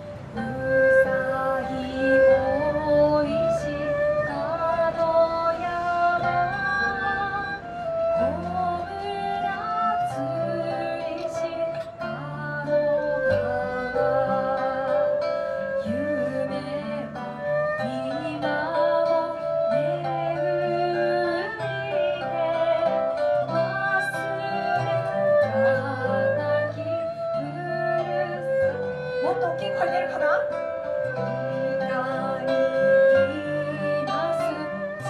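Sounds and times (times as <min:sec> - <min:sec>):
acoustic guitars: 0:00.0 - 0:35.0
woman singing with vibrato: 0:00.0 - 0:35.0.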